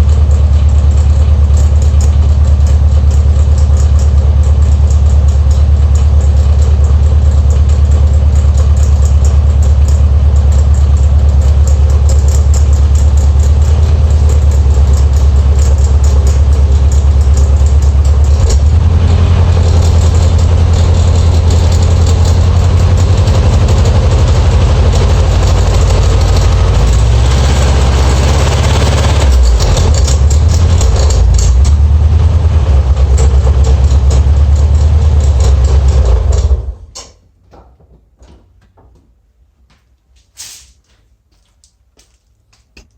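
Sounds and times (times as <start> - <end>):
alternator pulley noise: 0.0 - 36.9
car engine running: 0.0 - 36.9.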